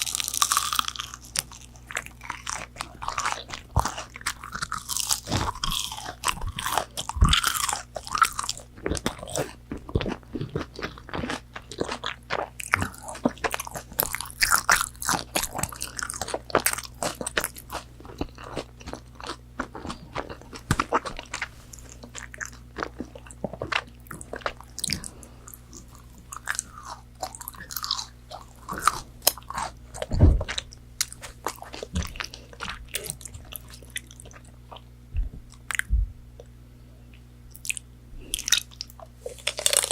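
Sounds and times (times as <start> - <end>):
crunchy chewing of fried food: 0.0 - 39.9.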